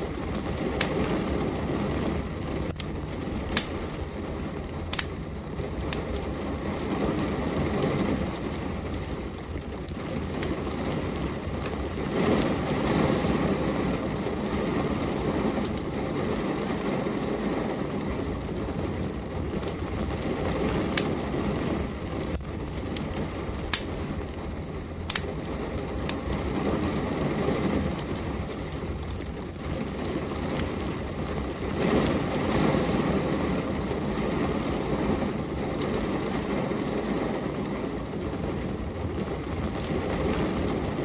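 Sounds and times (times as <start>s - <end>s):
steady rain: 0.0s - 41.0s
wood fire crackling: 0.0s - 41.0s.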